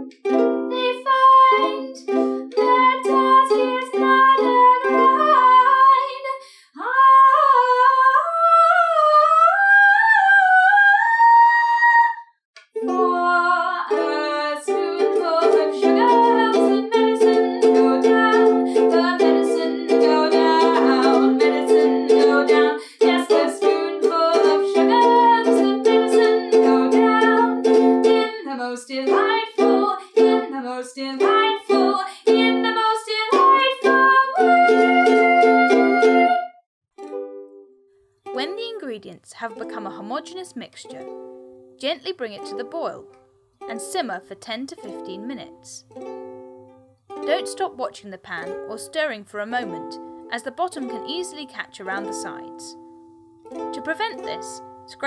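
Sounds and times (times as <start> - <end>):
ukulele strummed: 0.0 - 6.2, 12.6 - 48.9, 49.5 - 55.0
woman singing wordless melody: 0.7 - 12.2, 12.8 - 36.5, 38.3 - 41.2, 41.8 - 45.9, 47.2 - 52.9, 53.6 - 55.0.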